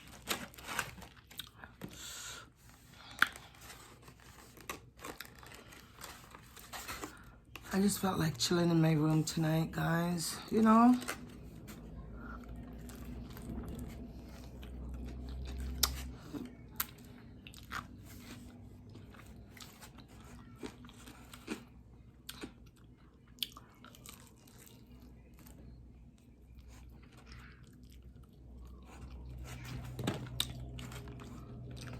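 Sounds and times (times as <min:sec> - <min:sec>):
soft chewing: 0:00.0 - 0:07.7, 0:10.3 - 0:31.9
crunching fried chicken: 0:03.0 - 0:08.0, 0:09.3 - 0:31.9.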